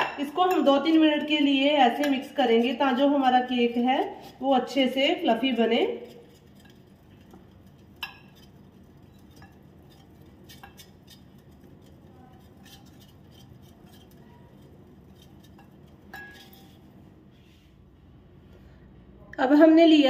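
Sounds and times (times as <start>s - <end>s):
whisk clinking against glass bowl: 0.0s - 17.0s.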